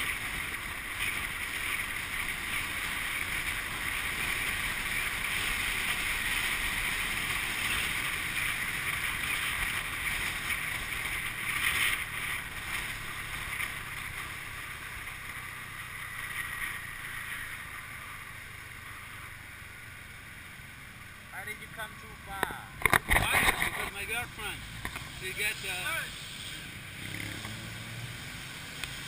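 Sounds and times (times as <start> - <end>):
motorbike engine: 0.0 - 29.0
road noise: 0.0 - 29.0.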